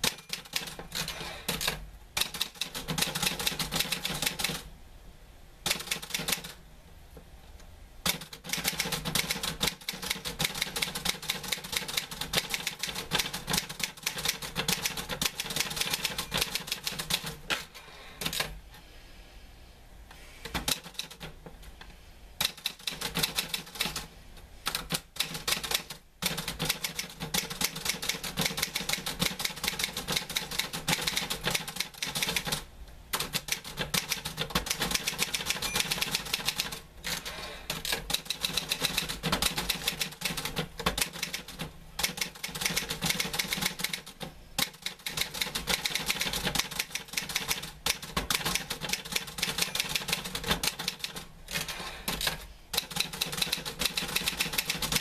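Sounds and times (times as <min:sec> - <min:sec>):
typewriter keys striking: 0:00.0 - 0:04.6, 0:05.6 - 0:06.6, 0:08.0 - 0:18.6, 0:20.5 - 0:21.3, 0:22.4 - 0:24.1, 0:24.7 - 0:55.0.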